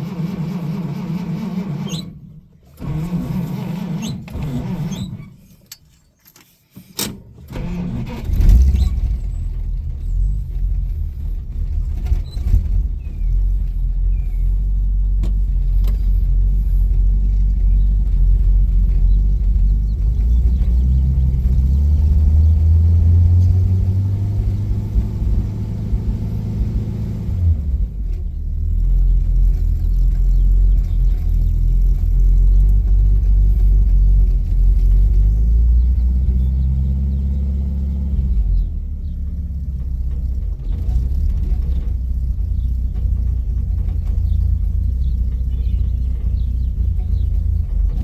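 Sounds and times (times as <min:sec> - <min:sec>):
car engine running: 0:07.6 - 0:48.0.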